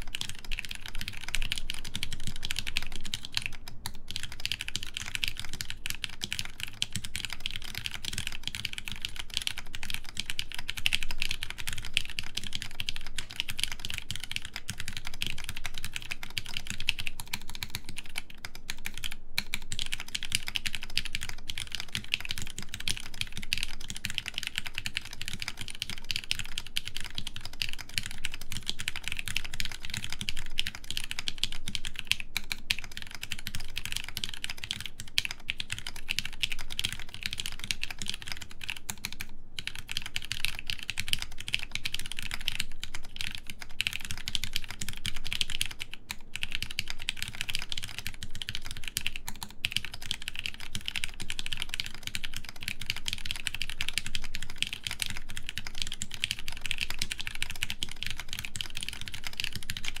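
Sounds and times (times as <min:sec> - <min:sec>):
mechanical keyboard typing: 0:00.0 - 1:00.0.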